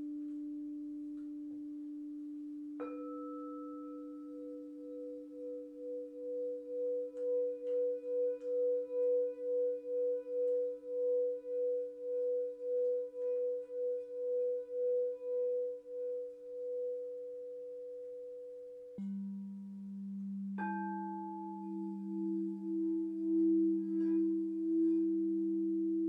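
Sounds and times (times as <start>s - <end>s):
lower bowl tone: 0.0s - 26.0s
singing bowl pulsing tone: 0.0s - 26.0s.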